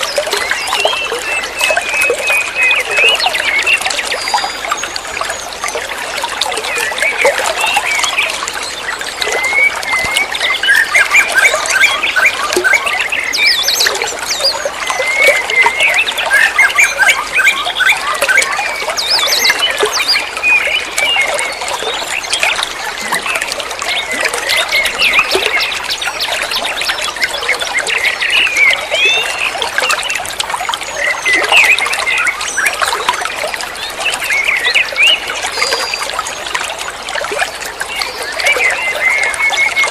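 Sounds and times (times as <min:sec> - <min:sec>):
water trickling and splashing: 0:00.0 - 0:39.9
small birds chirping: 0:06.5 - 0:39.9.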